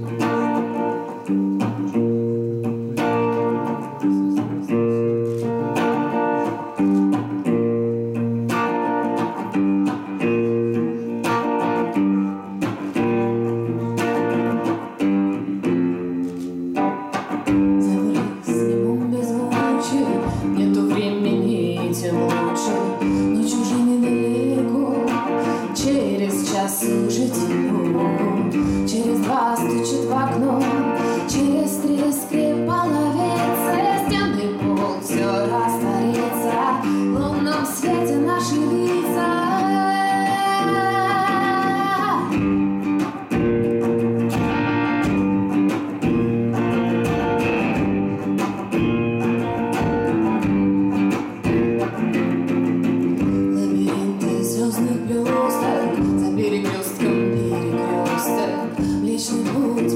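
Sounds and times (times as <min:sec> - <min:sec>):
woman singing: 0:00.0 - 0:15.6, 0:16.8 - 0:43.6, 0:53.0 - 0:59.9
electric guitar: 0:00.0 - 0:59.9.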